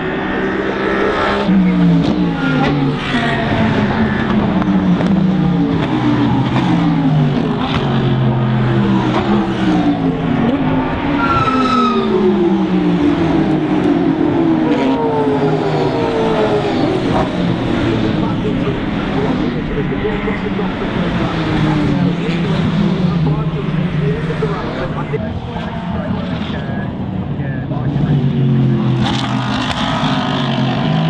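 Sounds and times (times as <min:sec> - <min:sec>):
race car engines passing by: 0:00.0 - 0:31.0.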